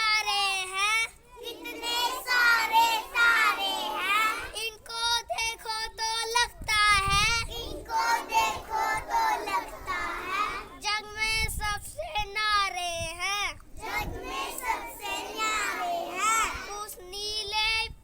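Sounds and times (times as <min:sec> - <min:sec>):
children singing a rhyme: 0:00.0 - 0:18.0.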